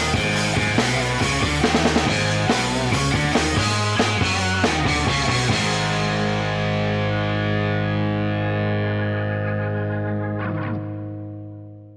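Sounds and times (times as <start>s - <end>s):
held guitar chord ringing: 0.0s - 11.9s
rock music: 0.0s - 11.9s.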